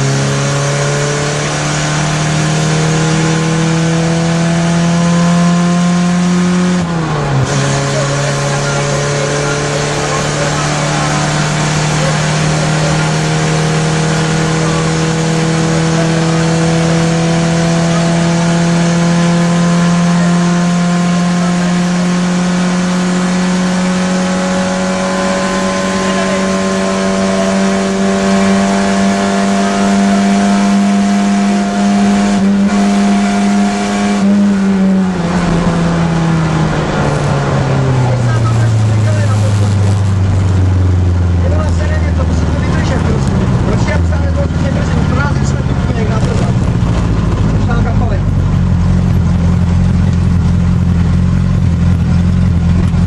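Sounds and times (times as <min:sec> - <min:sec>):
rally car engine at high revs: 0:00.0 - 0:53.0.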